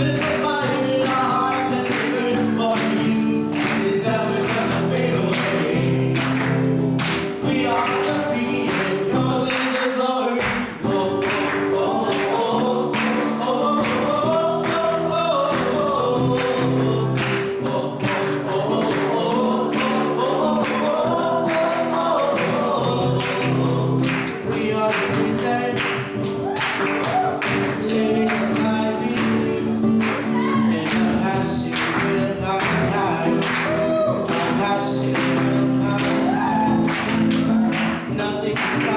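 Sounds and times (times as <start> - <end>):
choir singing gospel music: 0.0 - 38.9.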